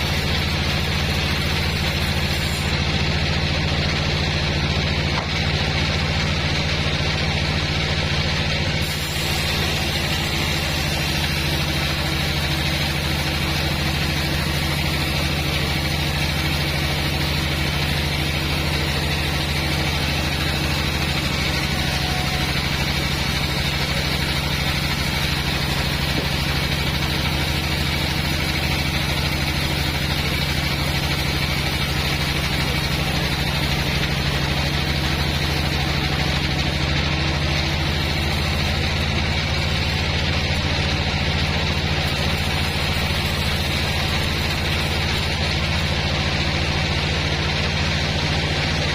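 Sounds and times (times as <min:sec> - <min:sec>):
band saw machine running: 0:00.0 - 0:48.9.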